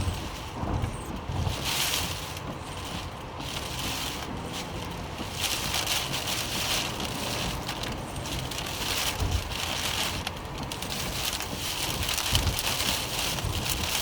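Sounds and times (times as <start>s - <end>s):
low rumble: 0.0s - 14.0s
rain hissing: 0.0s - 14.0s.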